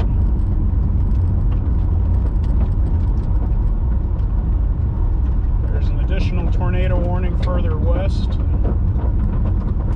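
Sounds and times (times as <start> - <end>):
car engine and road noise: 0.0 - 9.9.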